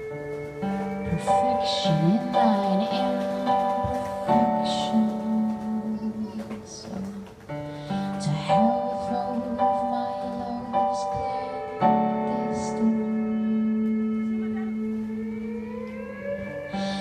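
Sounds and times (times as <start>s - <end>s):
keyboard and guitar chords: 0.0s - 17.0s.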